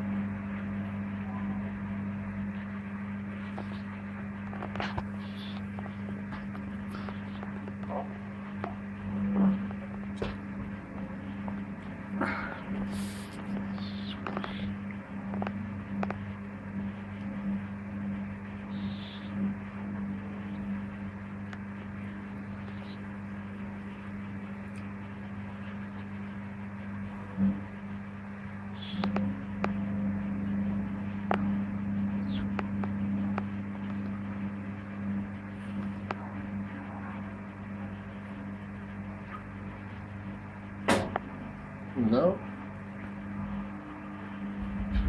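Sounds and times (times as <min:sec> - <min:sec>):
washing machine spinning: 0:00.0 - 0:45.0.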